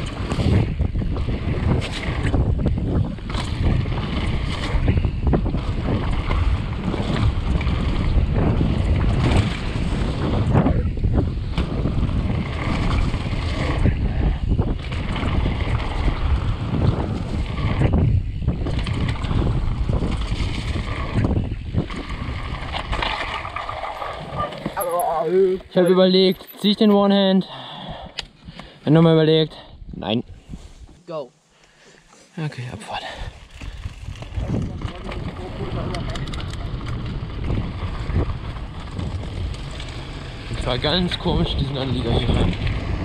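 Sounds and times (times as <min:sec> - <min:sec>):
bike knocking and rattling: 0:00.0 - 0:25.0, 0:33.2 - 0:43.0
wind buffeting microphone: 0:00.0 - 0:26.8, 0:32.9 - 0:43.0.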